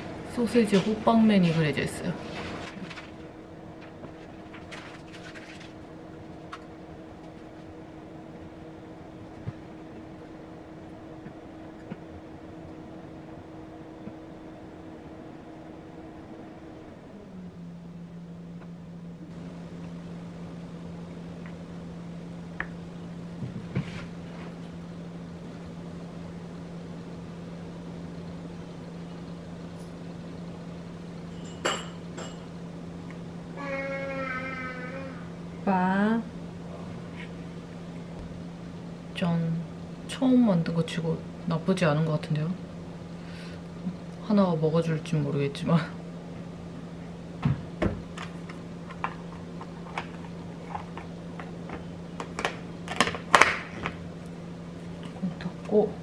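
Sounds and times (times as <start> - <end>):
low hum: 0.0 - 53.1.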